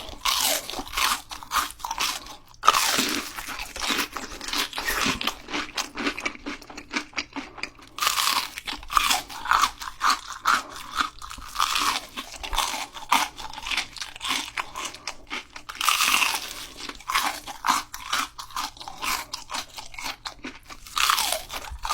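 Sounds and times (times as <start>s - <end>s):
chewing crispy fried shrimp: 0.0s - 21.9s.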